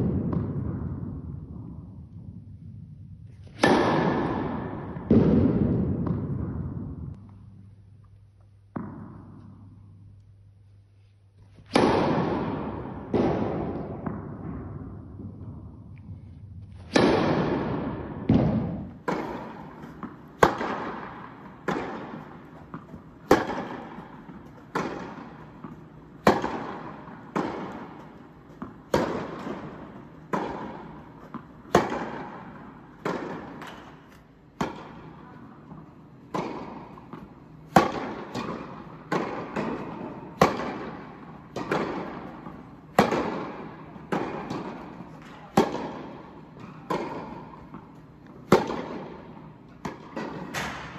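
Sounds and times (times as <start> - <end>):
tennis ball struck by rackets: 3.4 - 6.7, 8.7 - 9.7, 11.6 - 14.7, 16.8 - 50.9.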